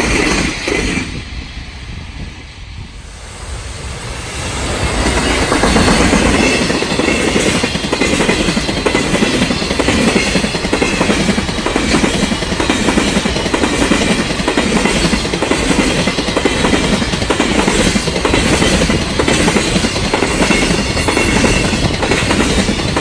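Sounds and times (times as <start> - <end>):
clickety-clack of wheels on rail joints: 0.0 - 1.7, 4.6 - 23.0
train rumbling past: 0.0 - 23.0.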